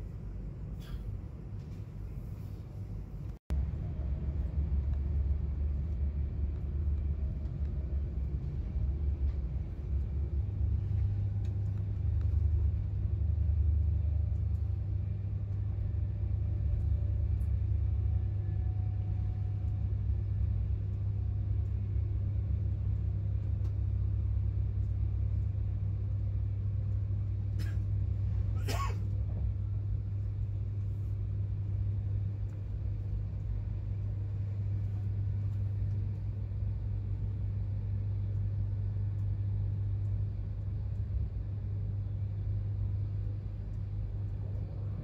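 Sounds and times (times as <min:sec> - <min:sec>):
low hum: 0:00.0 - 0:45.0
train rumble: 0:00.0 - 0:45.0.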